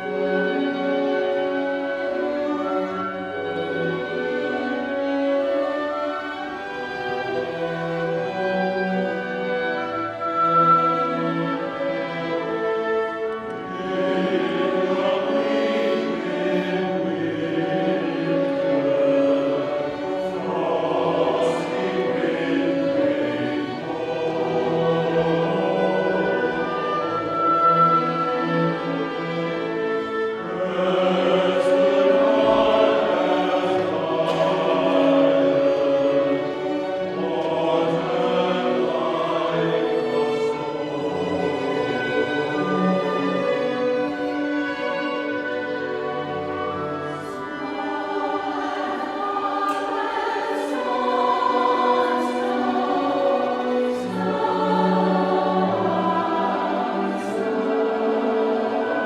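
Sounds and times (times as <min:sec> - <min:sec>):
choir singing: 0:00.0 - 0:59.0
orchestral accompaniment: 0:00.0 - 0:59.0.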